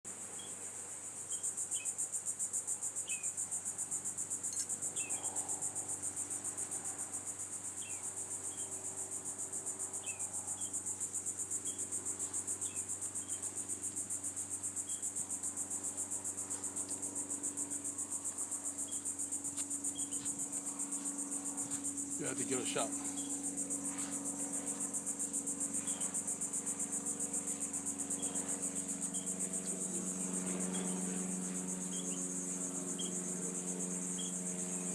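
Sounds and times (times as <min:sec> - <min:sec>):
insects pulsing buzz: 0:00.1 - 0:34.9.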